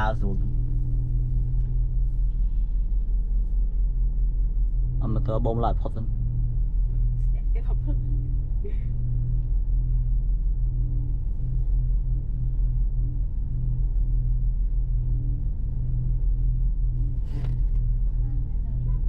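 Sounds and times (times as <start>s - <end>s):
car driving rumble: 0.0s - 19.0s.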